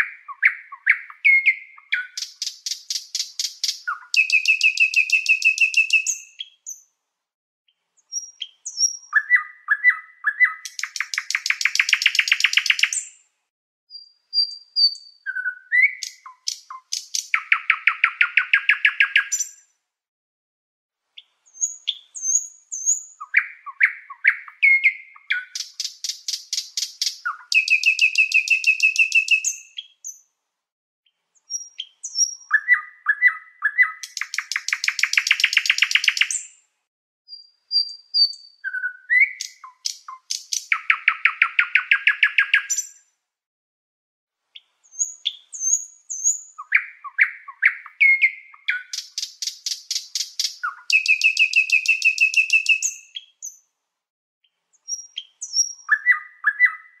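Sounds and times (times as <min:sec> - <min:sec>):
high bird chirps and whistles: 0:00.0 - 0:06.9, 0:08.0 - 0:13.2, 0:13.9 - 0:19.6, 0:21.2 - 0:30.2, 0:31.4 - 0:36.6, 0:37.3 - 0:43.0, 0:44.9 - 0:53.6, 0:54.4 - 0:57.0.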